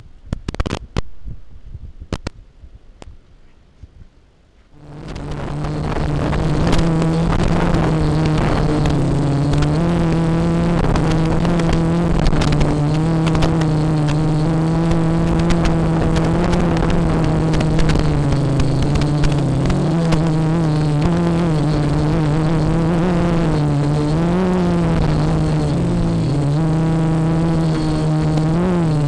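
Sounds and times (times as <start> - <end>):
quadcopter motors buzzing: 4.8 - 29.0.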